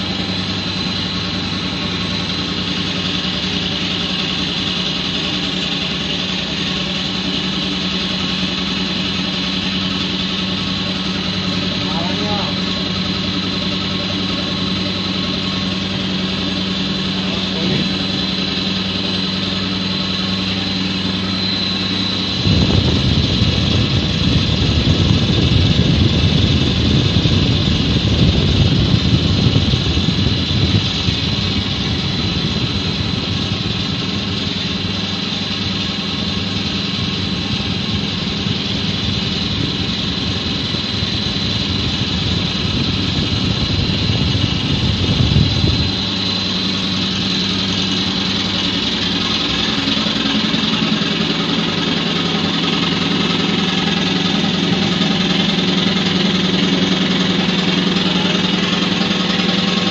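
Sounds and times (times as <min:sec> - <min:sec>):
machinery drone with whine: 0:00.0 - 0:59.9
rough rumble: 0:00.0 - 0:59.9.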